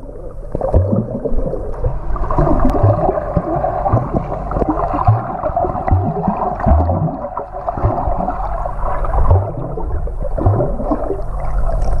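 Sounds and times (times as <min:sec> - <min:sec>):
underwater water sloshing and bubbling: 0:00.0 - 0:12.0
low underwater thuds: 0:00.5 - 0:12.0.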